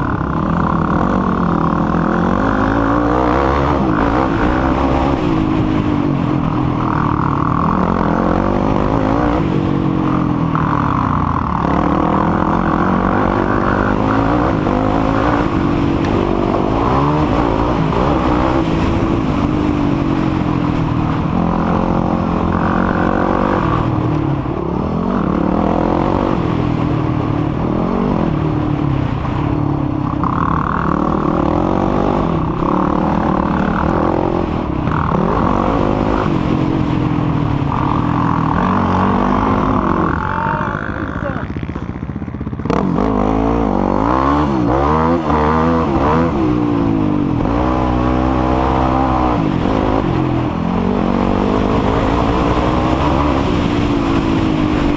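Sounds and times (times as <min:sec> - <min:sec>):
quad engine revving: 0:00.0 - 0:54.9.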